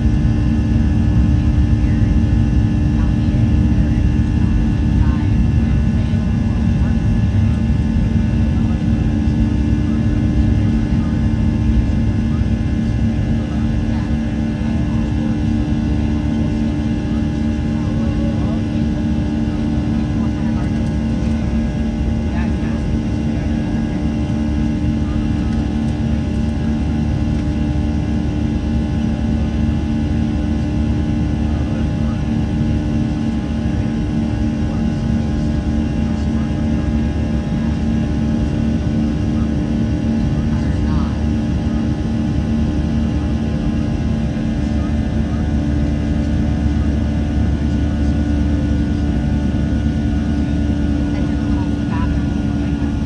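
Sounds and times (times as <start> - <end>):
jet engine drone in cabin: 0.0 - 53.0.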